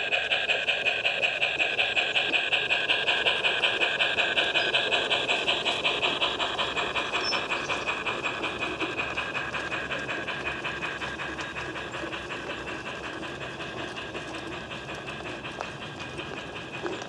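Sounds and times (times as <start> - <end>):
simulated steam locomotive chuffing: 0.0 - 17.0.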